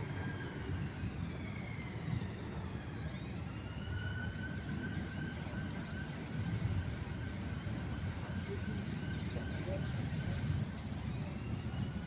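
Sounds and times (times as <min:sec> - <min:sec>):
faint siren wailing: 0:00.0 - 0:12.0
road traffic rumble: 0:00.0 - 0:12.0.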